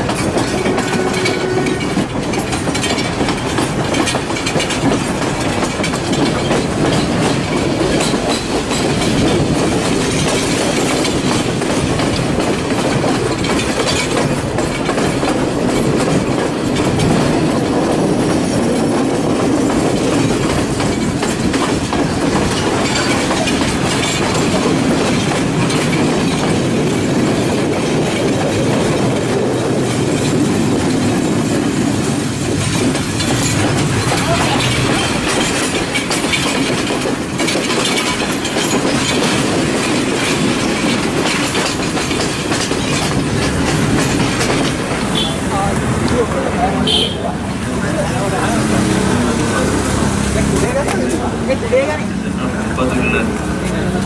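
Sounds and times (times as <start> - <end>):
train rolling rumble: 0.0 - 54.0
wheels clacking over rail joints: 0.0 - 54.0.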